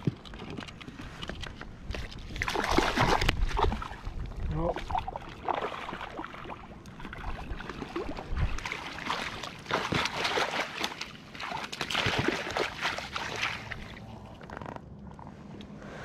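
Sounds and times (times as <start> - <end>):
water splashing and sloshing: 0.0 - 15.2.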